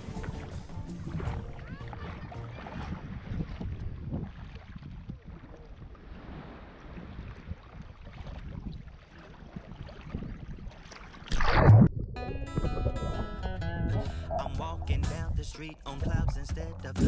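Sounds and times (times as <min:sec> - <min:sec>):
water sloshing and splashing: 0:00.0 - 0:16.7
wind buffeting microphone: 0:00.0 - 0:16.7.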